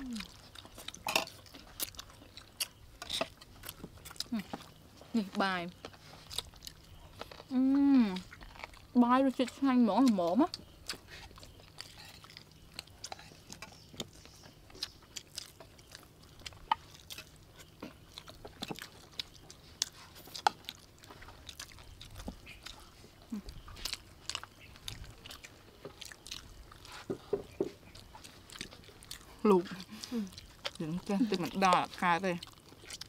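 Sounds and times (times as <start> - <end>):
people chewing food: 0.0 - 33.0.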